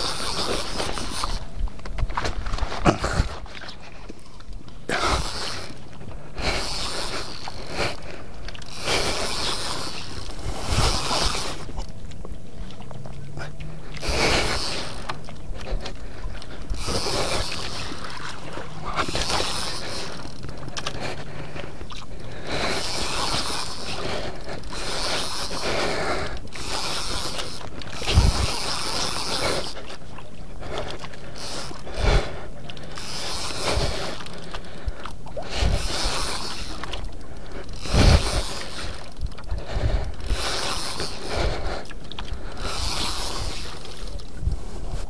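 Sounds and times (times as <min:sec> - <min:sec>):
fishing reel cranking: 0:00.0 - 0:45.0.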